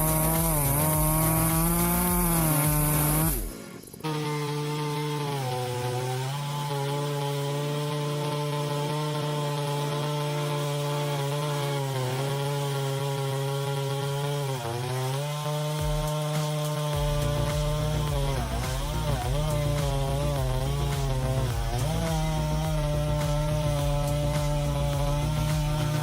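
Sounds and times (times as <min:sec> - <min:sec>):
chainsaw cutting at high revs: 0:00.0 - 0:26.0.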